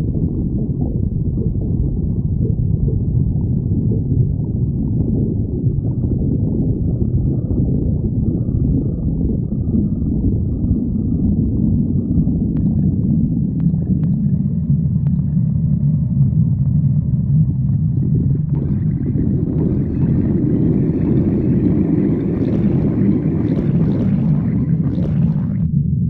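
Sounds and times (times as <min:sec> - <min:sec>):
stomach growling: 0:00.0 - 0:25.9.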